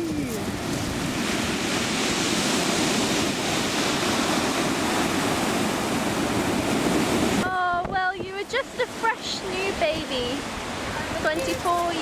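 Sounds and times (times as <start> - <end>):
sea waves washing on beach: 0.0 - 12.0
wind on microphone: 0.0 - 12.0.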